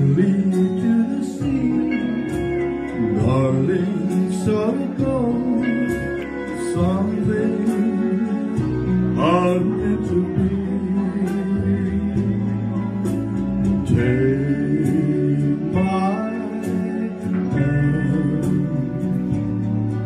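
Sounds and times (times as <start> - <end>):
guitar accompaniment: 0.0 - 20.0
man singing into a microphone: 0.0 - 20.0.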